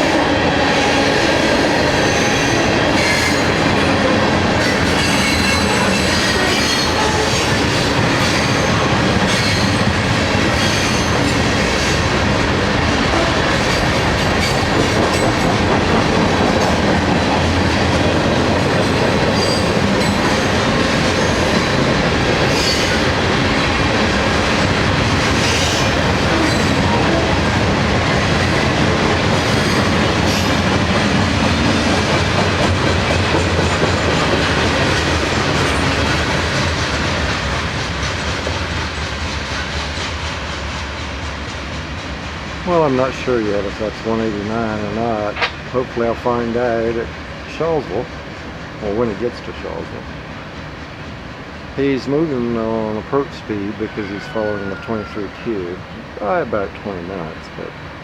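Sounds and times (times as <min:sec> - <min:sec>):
freight train rumble and clatter: 0:00.0 - 0:58.0.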